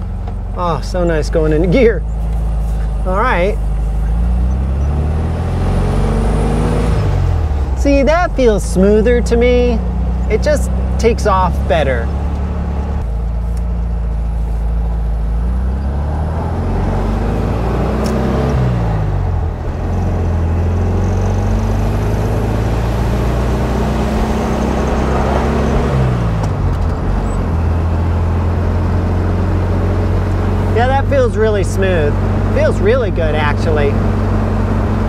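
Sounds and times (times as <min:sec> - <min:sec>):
car engine accelerating: 0:00.0 - 0:35.0
road and wind noise: 0:00.0 - 0:35.0.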